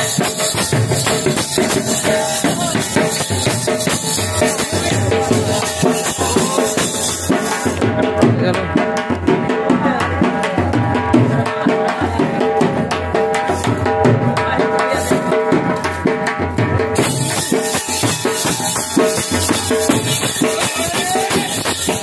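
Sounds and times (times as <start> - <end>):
folk dance music: 0.0 - 13.6, 14.2 - 22.0
driving drum beat: 0.0 - 22.0.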